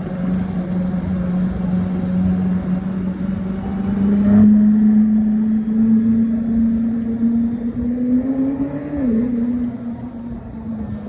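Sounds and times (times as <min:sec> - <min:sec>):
car engine and exhaust droning: 0:00.0 - 0:11.0.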